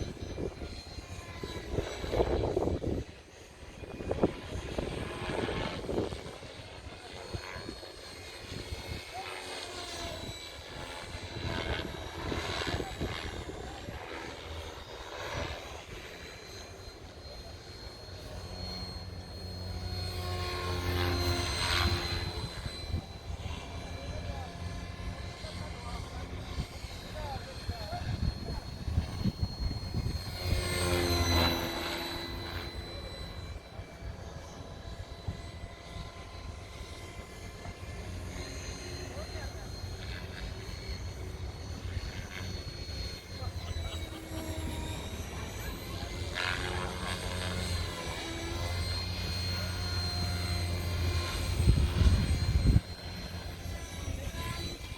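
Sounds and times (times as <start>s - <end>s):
model helicopter whine: 0.0s - 54.9s.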